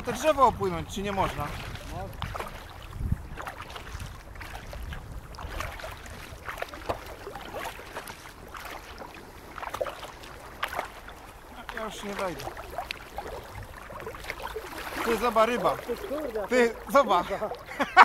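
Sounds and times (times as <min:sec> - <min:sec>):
kayak paddle splashing water: 0:00.0 - 0:18.0
water dripping off paddle: 0:00.0 - 0:18.0.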